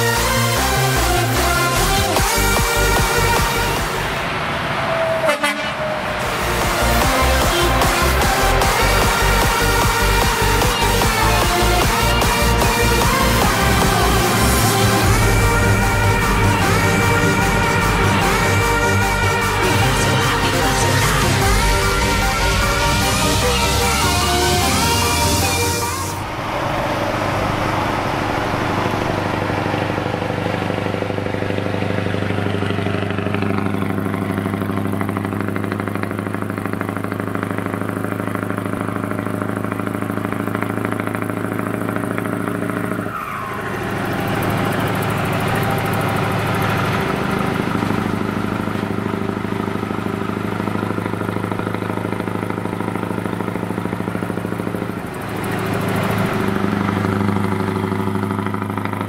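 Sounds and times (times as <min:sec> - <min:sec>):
truck engine at cruising revs: 0:00.0 - 0:59.0.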